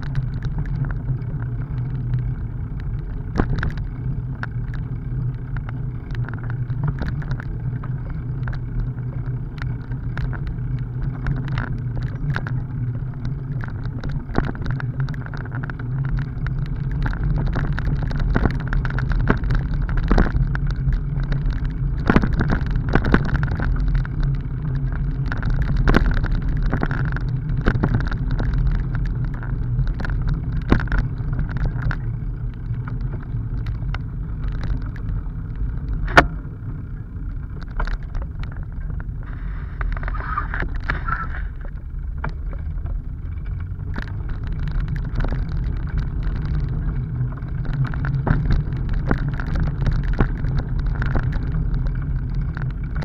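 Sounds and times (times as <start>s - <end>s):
bicycle tyres rumbling on gravel: 0.0s - 53.0s
bike clicking and rattling: 0.0s - 53.0s.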